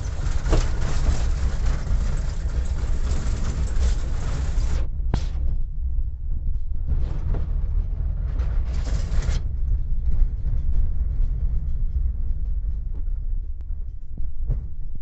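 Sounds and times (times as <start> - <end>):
vehicle engine rumble: 0.0 - 15.0
wind noise on microphone: 0.0 - 15.0.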